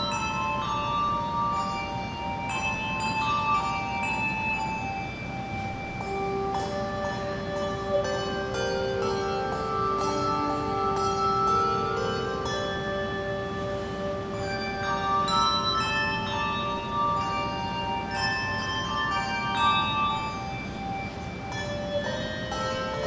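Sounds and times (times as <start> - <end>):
handbell choir playing: 0.0 - 23.0.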